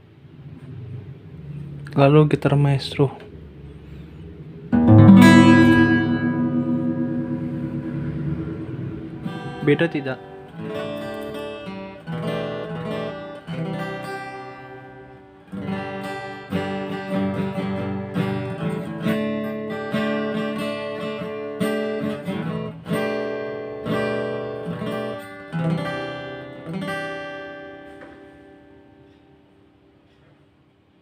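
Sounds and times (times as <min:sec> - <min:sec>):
acoustic guitar chords strummed: 0:04.7 - 0:29.9.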